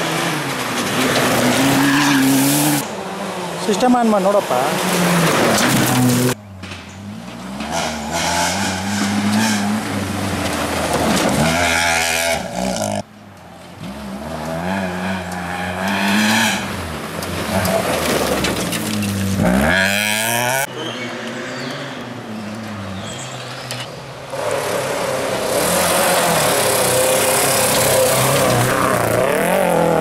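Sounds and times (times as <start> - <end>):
rally car engines revving: 0.0 - 13.1, 13.7 - 30.0.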